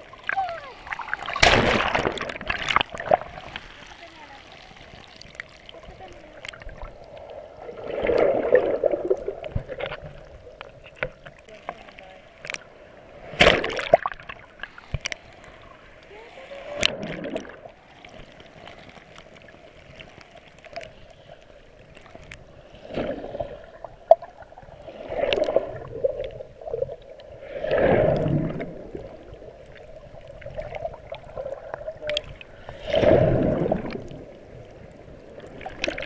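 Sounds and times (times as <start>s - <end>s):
muffled underwater water noise: 0.0s - 36.0s.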